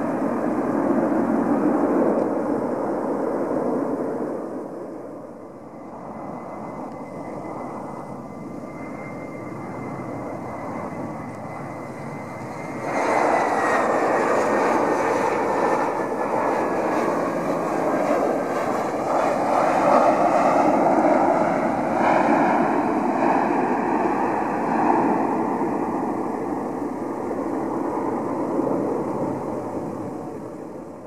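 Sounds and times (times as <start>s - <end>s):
jet reverse thrust roar: 0.0s - 30.9s
jet engines whining: 0.0s - 31.0s.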